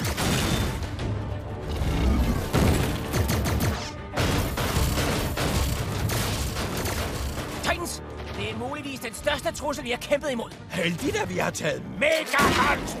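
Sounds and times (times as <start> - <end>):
dramatic cartoon action music: 0.0 - 13.0.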